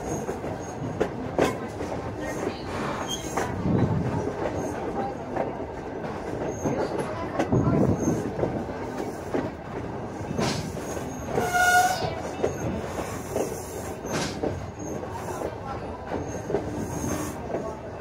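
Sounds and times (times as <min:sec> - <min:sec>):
train wheels clacking over rail joints: 0:00.0 - 0:17.8.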